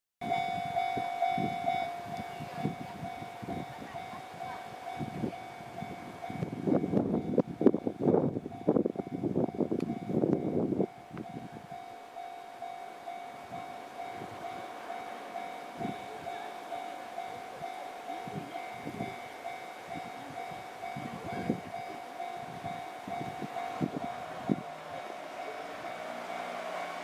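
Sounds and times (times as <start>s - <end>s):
level crossing alarm bell: 0.2s - 27.0s.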